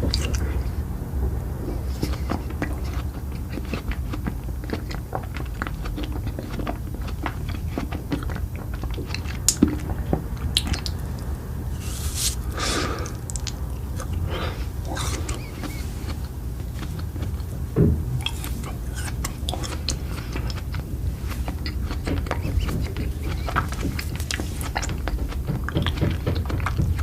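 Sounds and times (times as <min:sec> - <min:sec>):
steady low hum: 0:00.0 - 0:27.0
biting and chewing: 0:01.6 - 0:27.0.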